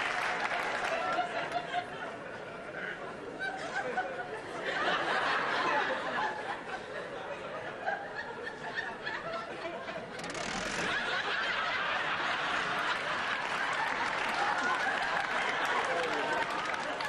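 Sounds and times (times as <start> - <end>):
audience laughing: 0.8 - 17.0.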